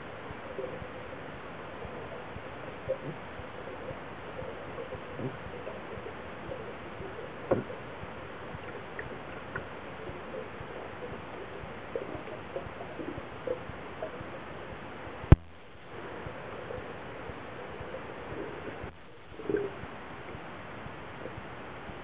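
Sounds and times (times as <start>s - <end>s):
faint bubbling blips: 0.0s - 22.0s
muffled underwater hiss: 0.0s - 22.0s.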